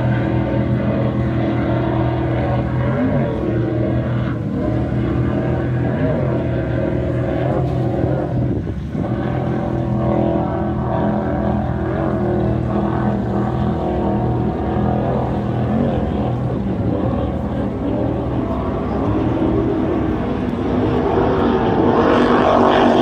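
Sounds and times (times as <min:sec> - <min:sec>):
distant powerboat engines droning: 0:00.0 - 0:23.0.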